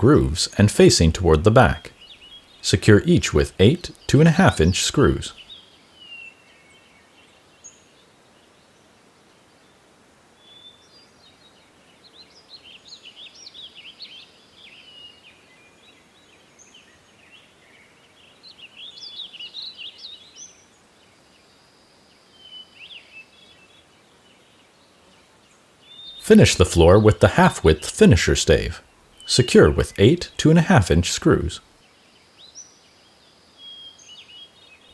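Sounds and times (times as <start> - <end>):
small birds chirping: 0.0 - 8.4, 10.4 - 34.9
faint outdoor hiss: 0.0 - 34.9.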